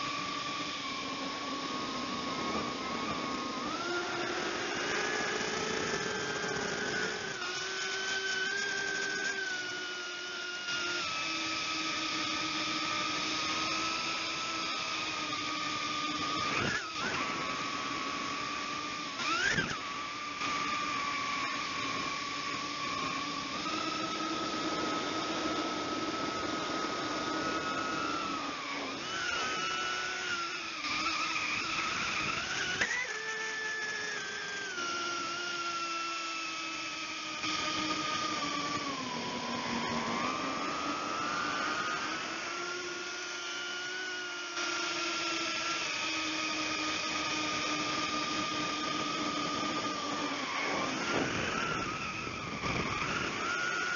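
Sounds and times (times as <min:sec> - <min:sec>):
drone motors and propellers whining: 0:00.0 - 0:53.9.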